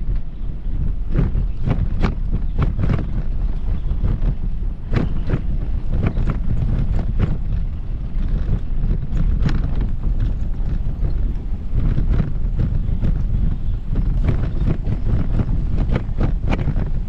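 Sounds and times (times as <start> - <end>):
footsteps on paved path: 0.0 - 17.0
wind rumble on microphone: 0.0 - 17.0.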